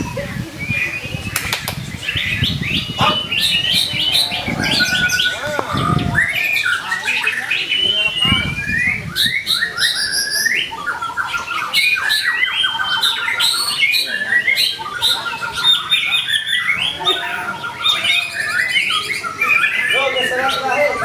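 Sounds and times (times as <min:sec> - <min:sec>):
bird chattering trills: 0:00.0 - 0:21.0
bird singing whistled phrases: 0:00.0 - 0:21.0.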